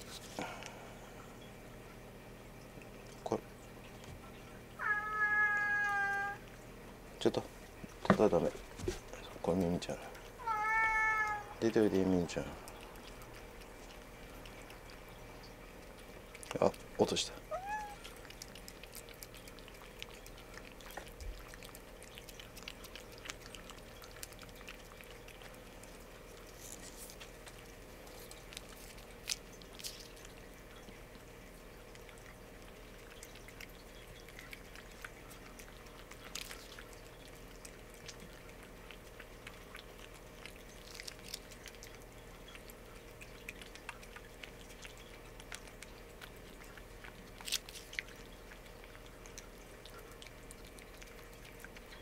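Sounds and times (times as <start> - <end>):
cats licking and chewing: 0.0 - 52.0
faint steady hum: 0.0 - 52.0.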